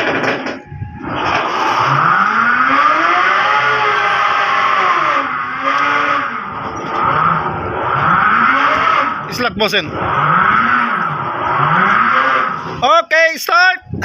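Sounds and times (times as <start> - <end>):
winch mechanical whine: 0.0 - 13.1.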